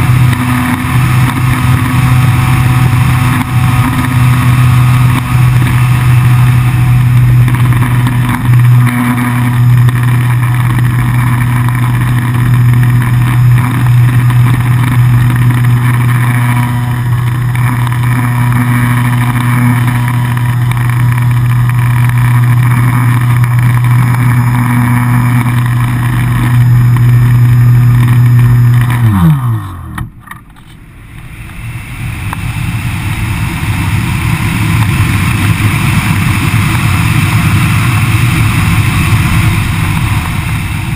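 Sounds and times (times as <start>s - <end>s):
electric motor and propeller: 0.0s - 40.9s.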